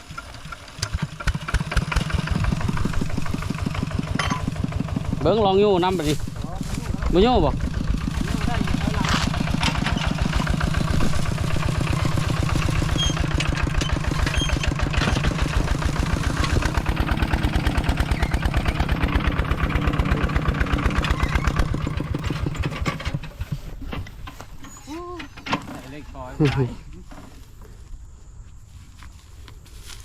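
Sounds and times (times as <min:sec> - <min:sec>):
small vehicle engine running hard: 0:00.0 - 0:24.4.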